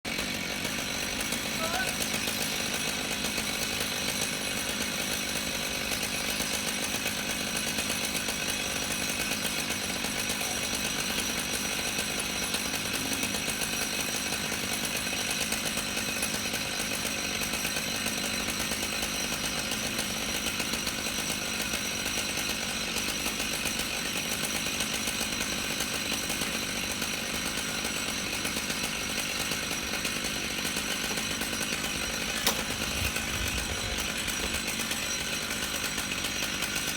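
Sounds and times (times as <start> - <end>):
chainsaw running at high speed: 0.0 - 36.9.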